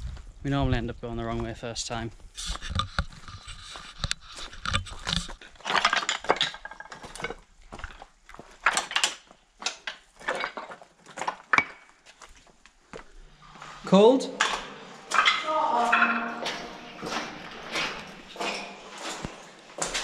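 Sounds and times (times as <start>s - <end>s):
footsteps on slate rubble: 0.0s - 13.3s, 14.5s - 20.0s.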